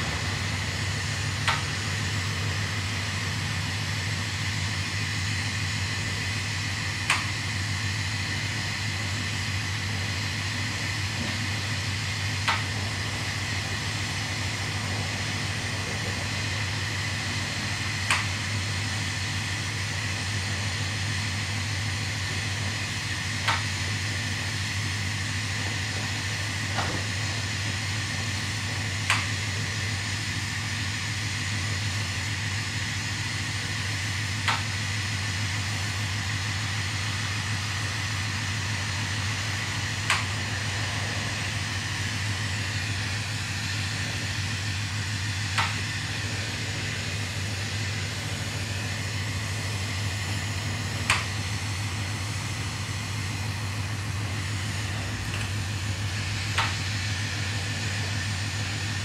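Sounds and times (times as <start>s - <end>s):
constant low hum: 0.0s - 59.0s.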